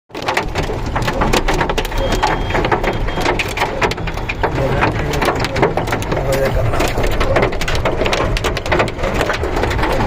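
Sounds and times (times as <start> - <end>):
hailstones pelting: 0.1 - 10.0.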